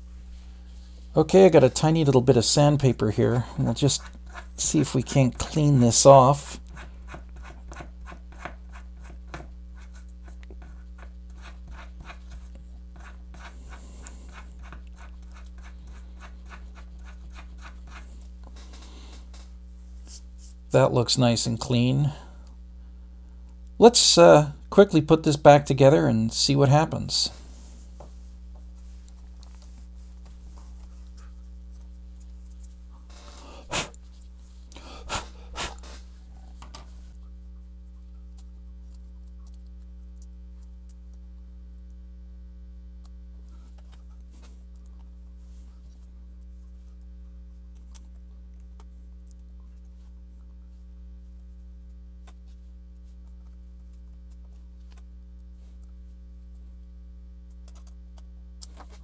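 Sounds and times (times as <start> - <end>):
mains hum: 0.0 - 59.0.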